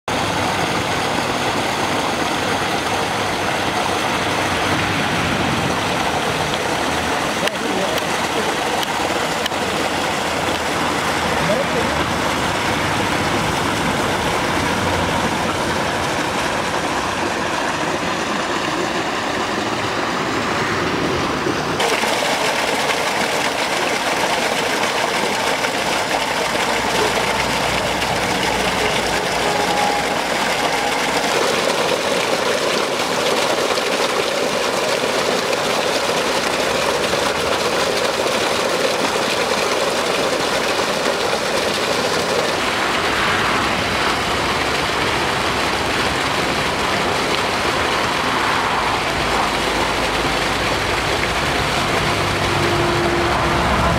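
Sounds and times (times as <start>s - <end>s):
water gushing and splashing: 0.0s - 53.9s
engine running: 0.1s - 53.9s.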